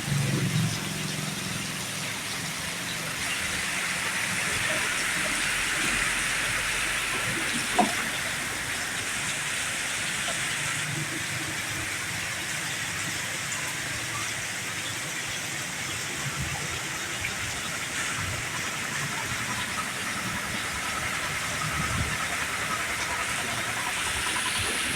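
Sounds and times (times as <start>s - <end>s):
heavy rain hissing: 0.0s - 24.9s.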